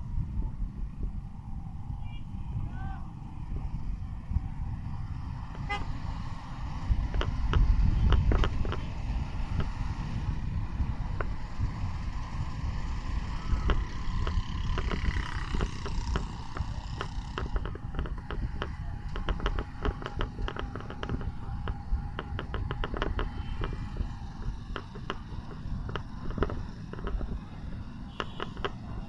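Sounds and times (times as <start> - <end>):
vehicle engine rumble: 0.0 - 29.0
wind on microphone: 0.0 - 29.0
rattling ticks: 5.4 - 29.0.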